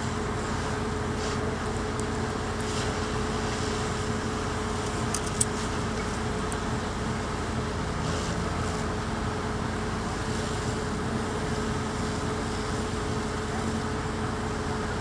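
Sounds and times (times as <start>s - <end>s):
fire engine motor running: 0.0s - 15.0s.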